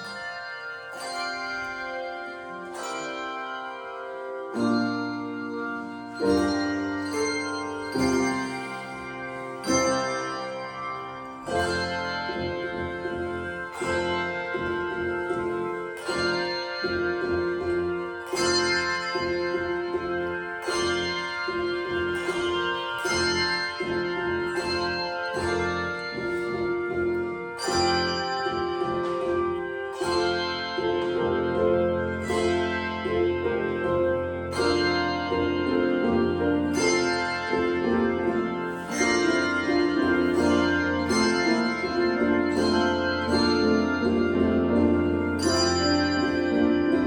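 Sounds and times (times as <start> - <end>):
handbell choir ringing: 0.0 - 47.0.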